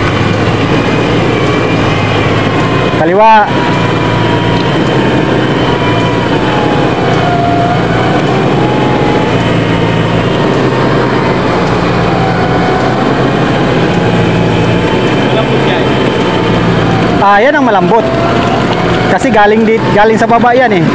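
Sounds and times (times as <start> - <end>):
vehicle engine running: 0.0 - 20.9
winch whining: 0.0 - 20.9.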